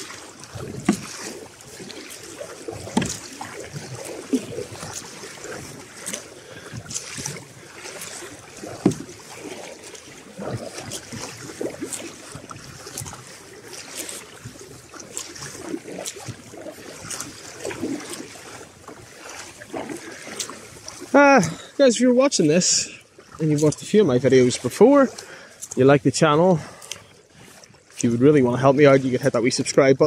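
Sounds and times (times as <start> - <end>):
paddle strokes splashing: 0.0 - 30.0
water washing against kayak hull: 0.0 - 30.0.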